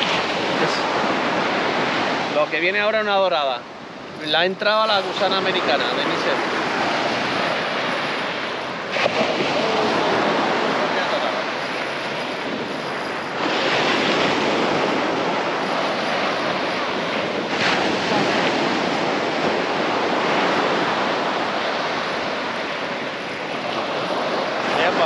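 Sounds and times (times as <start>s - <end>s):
surf breaking on beach: 0.0s - 25.0s
wind on microphone: 0.0s - 25.0s.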